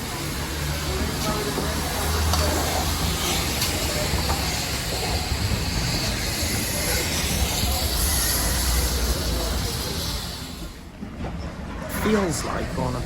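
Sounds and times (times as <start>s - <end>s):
steam train rumble: 0.0s - 13.0s.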